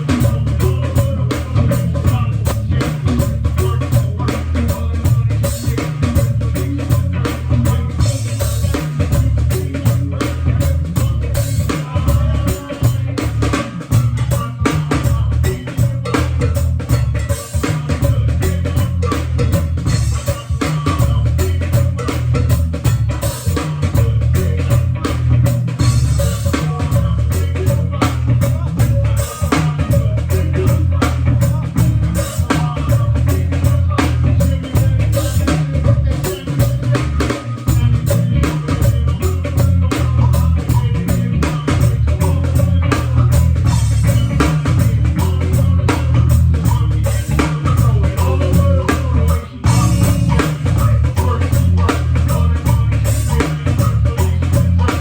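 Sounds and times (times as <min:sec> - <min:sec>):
drum kit beat: 0:00.0 - 0:55.0
guitar: 0:00.0 - 0:55.0
heavy bass line: 0:00.0 - 0:55.0.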